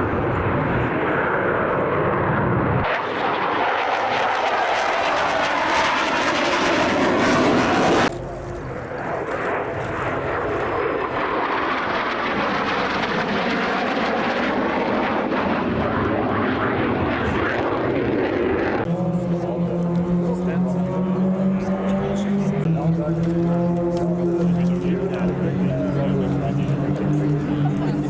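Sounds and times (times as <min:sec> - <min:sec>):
aircraft engine humming: 0:00.0 - 0:28.0
aircraft passing loudly: 0:00.0 - 0:28.0.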